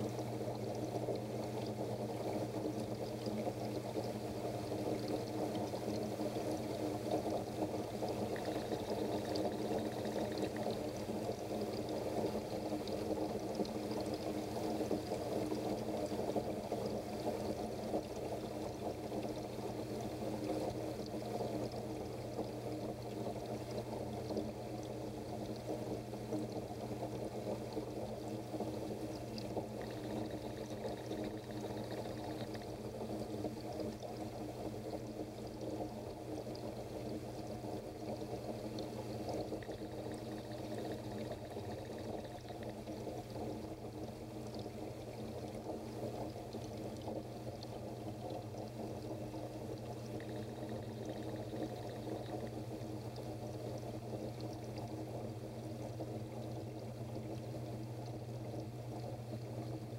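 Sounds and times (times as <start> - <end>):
aquarium water splashing: 0.0 - 59.9.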